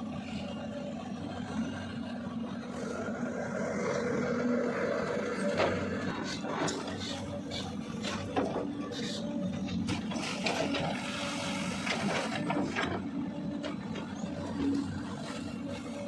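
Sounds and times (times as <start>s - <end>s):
excavator running: 0.0s - 16.0s.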